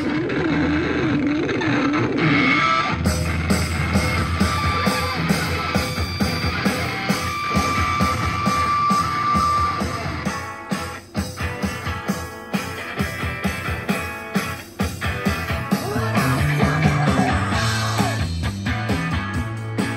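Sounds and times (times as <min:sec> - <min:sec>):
guitar rock music over speakers: 0:00.0 - 0:19.9.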